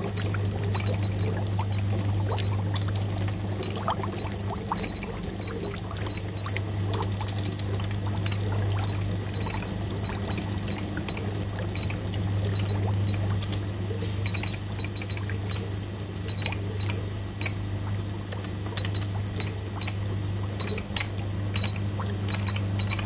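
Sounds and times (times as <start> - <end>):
steady low hum: 0.0 - 23.0
water pouring into glass tanks: 0.0 - 23.0.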